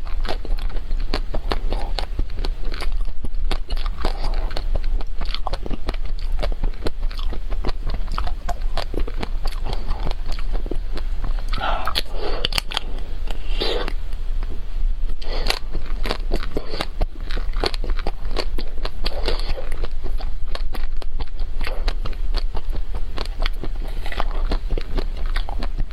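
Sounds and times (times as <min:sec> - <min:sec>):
wet chewing: 0:00.0 - 0:25.9.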